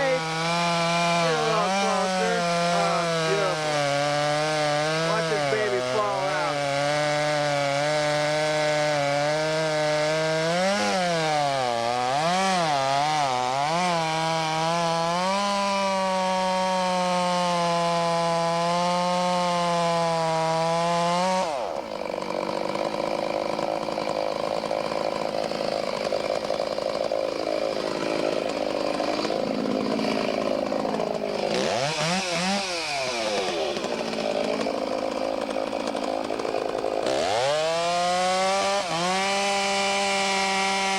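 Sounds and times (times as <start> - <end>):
chainsaw cutting at high revs: 0.0 - 40.9.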